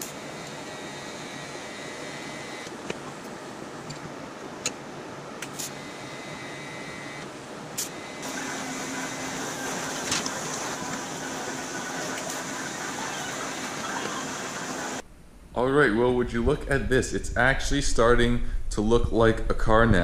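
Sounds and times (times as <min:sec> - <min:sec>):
steady mechanical hum and hiss: 0:00.0 - 0:20.0.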